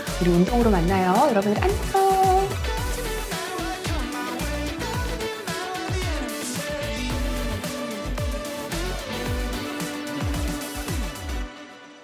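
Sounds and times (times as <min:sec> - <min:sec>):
electronic music with deep bass: 0:00.0 - 0:11.5.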